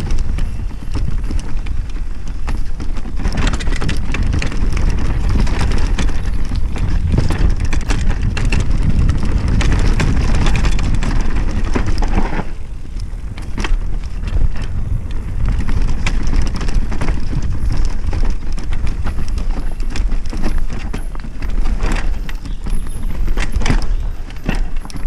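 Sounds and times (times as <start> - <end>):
bike clicks and rattles: 0.0 - 25.0
bike tyres on dirt and stones: 0.0 - 25.0
wind buffeting microphone: 0.0 - 25.0.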